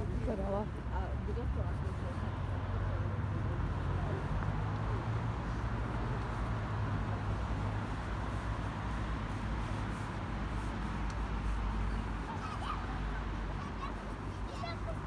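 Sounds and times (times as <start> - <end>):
faint voices of passers-by: 0.0 - 15.0
low traffic hum: 0.0 - 15.0.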